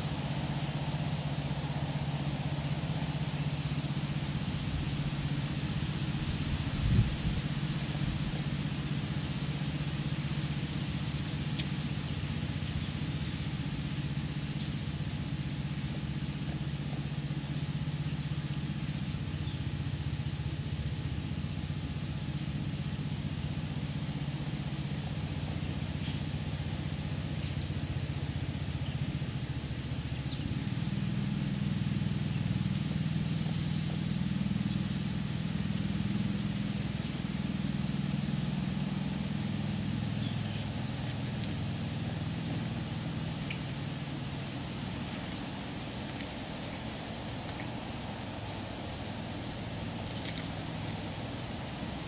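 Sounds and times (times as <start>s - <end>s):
distant motor hum: 0.0s - 52.0s.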